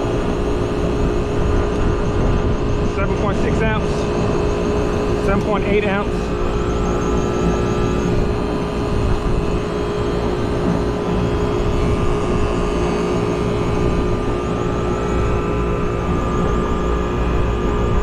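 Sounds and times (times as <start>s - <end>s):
compressor humming: 0.0s - 18.0s.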